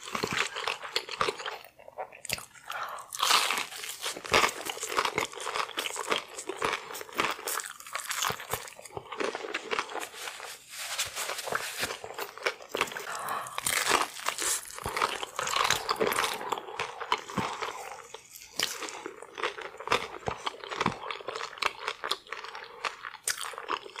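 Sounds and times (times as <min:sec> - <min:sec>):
crunching and chewing fried food: 0:00.0 - 0:24.0.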